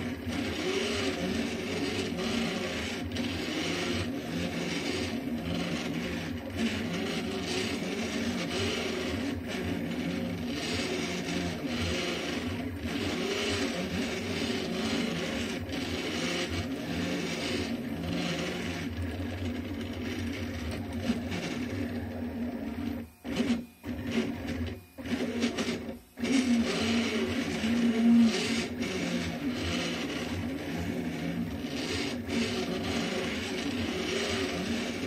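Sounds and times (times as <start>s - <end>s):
stepper motors whining: 0.0s - 35.0s.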